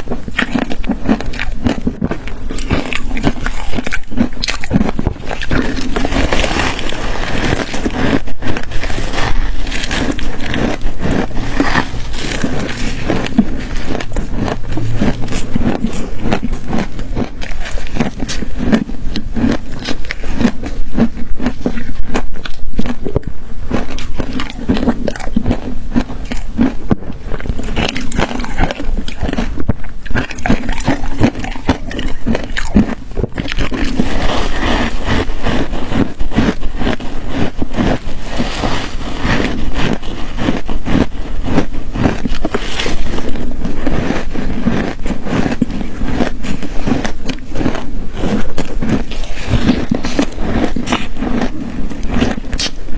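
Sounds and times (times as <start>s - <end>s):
ice crunching: 0.0s - 52.9s.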